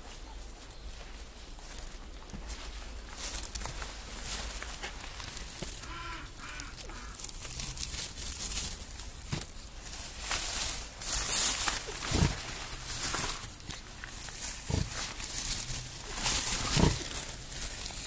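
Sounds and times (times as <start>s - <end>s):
straw bedding rustling: 0.0s - 18.0s.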